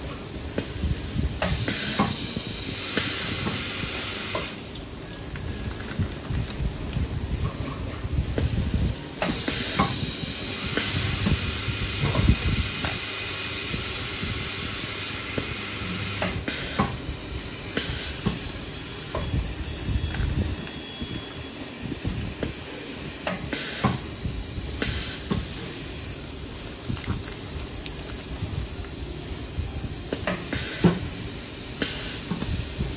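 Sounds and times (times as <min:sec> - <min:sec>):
pneumatic air hiss: 0:00.0 - 0:06.2, 0:07.2 - 0:32.9.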